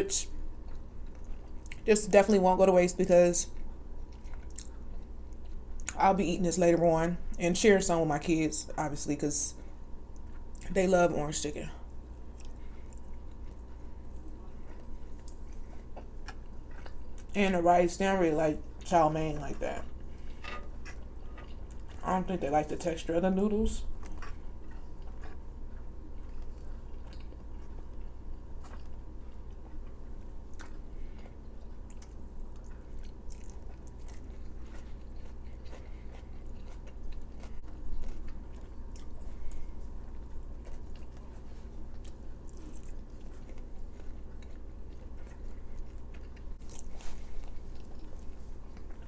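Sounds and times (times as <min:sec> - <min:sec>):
steady low hum: 0:00.0 - 0:49.0
close chewing and crunching: 0:00.1 - 0:06.4, 0:09.6 - 0:49.0.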